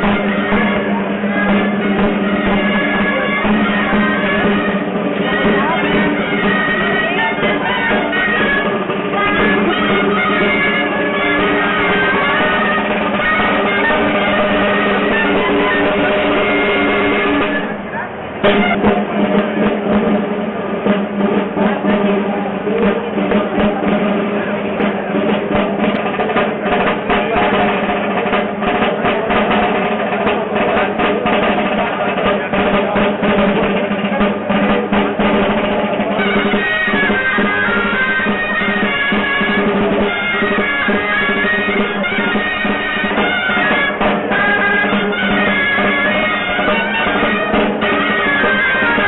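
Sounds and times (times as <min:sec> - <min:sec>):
drum rolls and strokes: 0:00.0 - 0:49.0
shawms playing: 0:00.0 - 0:49.0.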